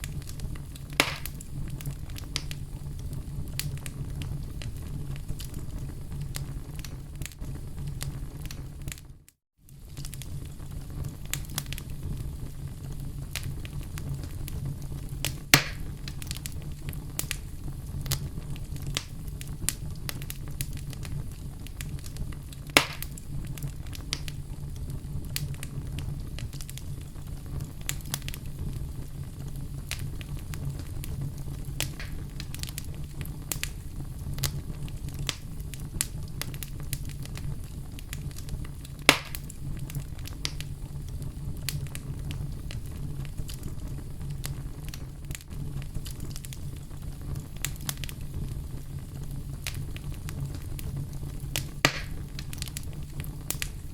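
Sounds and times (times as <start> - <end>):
campfire crackling: 0.0 - 53.9
loud fire pops: 0.0 - 53.9
low rumble of burning wood: 0.0 - 53.9.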